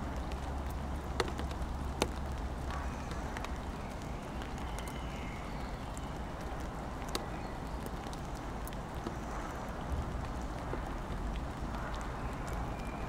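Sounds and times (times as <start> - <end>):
sharp drips tapping: 0.0 - 5.0, 5.8 - 12.8
steady rain: 0.0 - 13.0.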